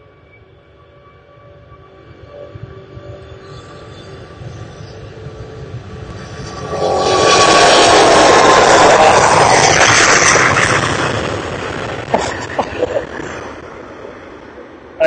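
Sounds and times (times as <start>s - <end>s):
high engine whine: 0.0s - 15.0s
jet engines roaring: 0.0s - 15.0s.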